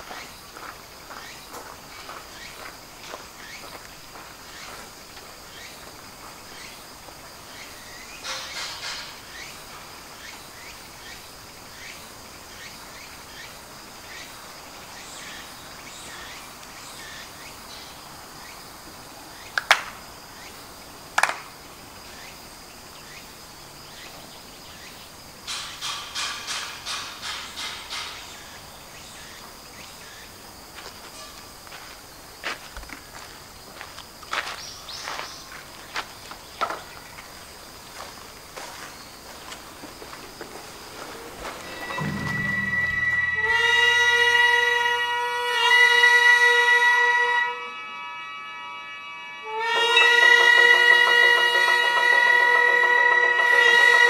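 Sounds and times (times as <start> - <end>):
insects chirring: 0.0 - 48.0, 49.4 - 54.0.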